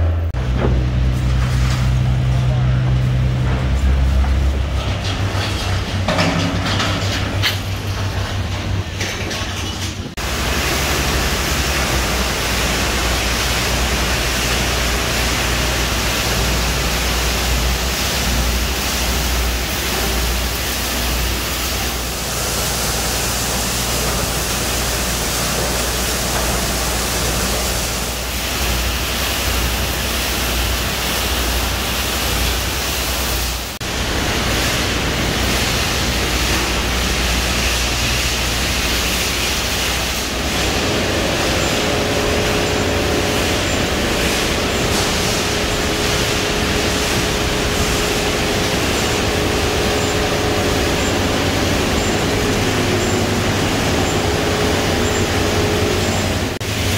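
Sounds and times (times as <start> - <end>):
recycling machinery rushing: 0.0 - 56.9.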